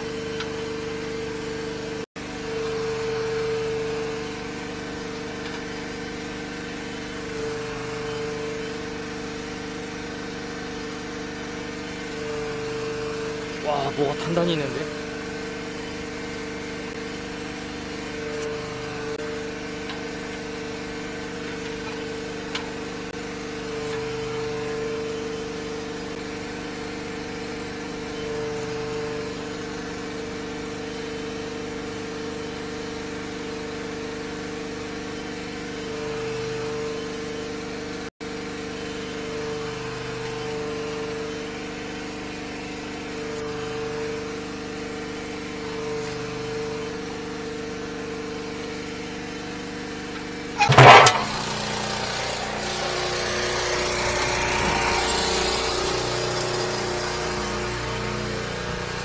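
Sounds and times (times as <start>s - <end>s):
drain cleaning machine motor humming: 0.0s - 30.2s, 38.8s - 59.0s.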